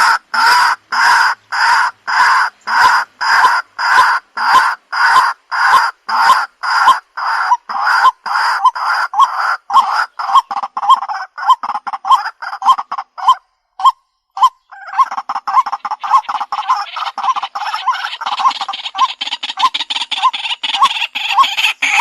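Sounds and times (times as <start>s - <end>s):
waterhen calling kwak notes: 0.0s - 22.0s.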